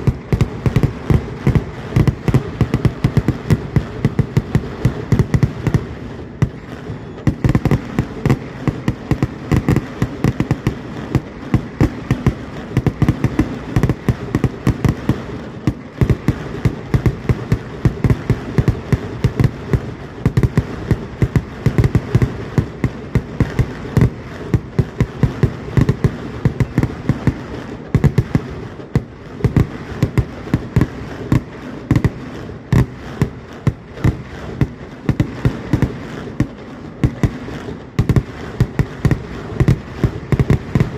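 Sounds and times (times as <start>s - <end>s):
fireworks explosions: 0.0s - 40.9s.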